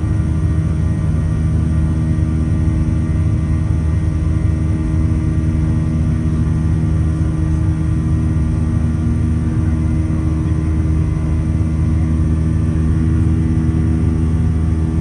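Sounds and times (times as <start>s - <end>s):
jet engine drone and airflow: 0.0s - 15.0s.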